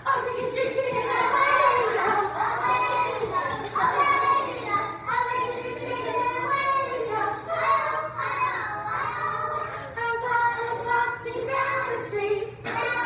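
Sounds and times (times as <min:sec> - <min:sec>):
children singing: 0:00.7 - 0:13.0.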